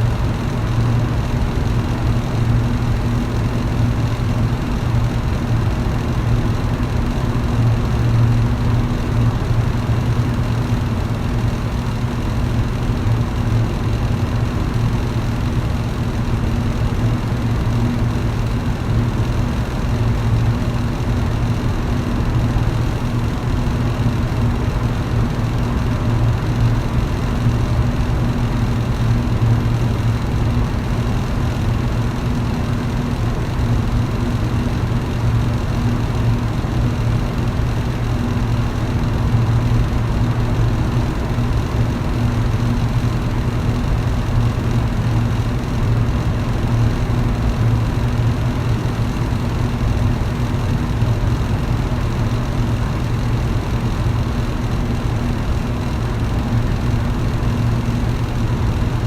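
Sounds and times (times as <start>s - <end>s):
electric fan running: 0.0s - 59.0s.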